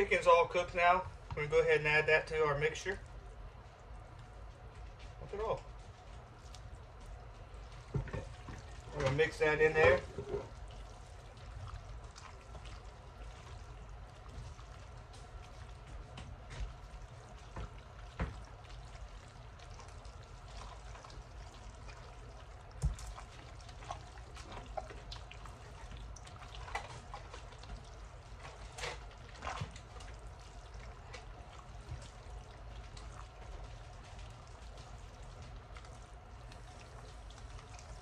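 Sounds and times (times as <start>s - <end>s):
steady low hum: 0.0s - 38.0s
wet stirring of food in a bowl: 0.0s - 38.0s.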